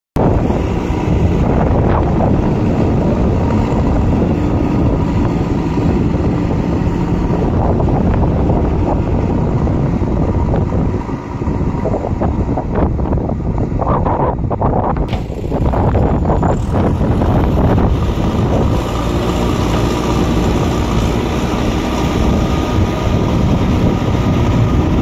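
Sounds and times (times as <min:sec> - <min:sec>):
diesel engine running: 0:00.2 - 0:13.8, 0:15.0 - 0:25.0
wind buffeting microphone: 0:00.2 - 0:25.0.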